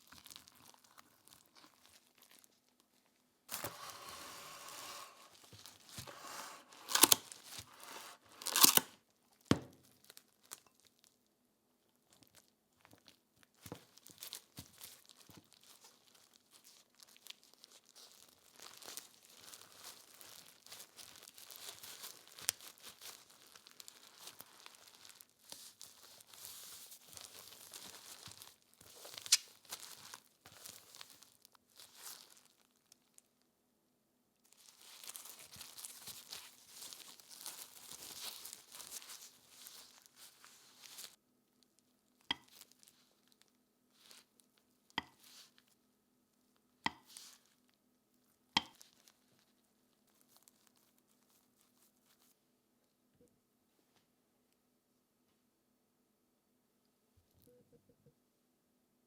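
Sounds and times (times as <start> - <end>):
cling wrap crinkling: 0.0 - 11.3, 11.9 - 33.3, 34.4 - 45.8, 48.7 - 52.4.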